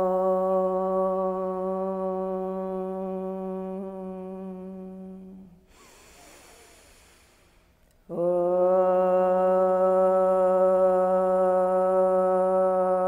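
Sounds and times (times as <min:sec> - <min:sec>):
person chanting om: 0:00.0 - 0:13.0.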